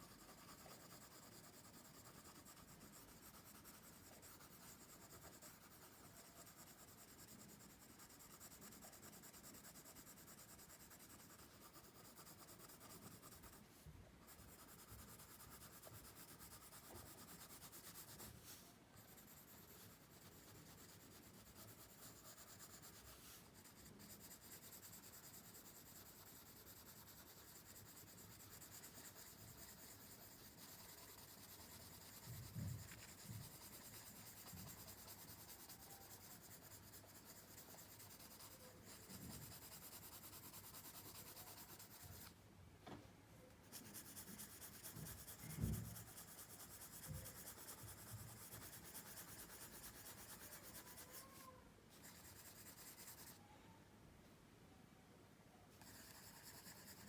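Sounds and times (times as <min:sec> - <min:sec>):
pencil scratching on paper: 0:00.0 - 0:42.4, 0:43.7 - 0:53.4, 0:55.8 - 0:57.0.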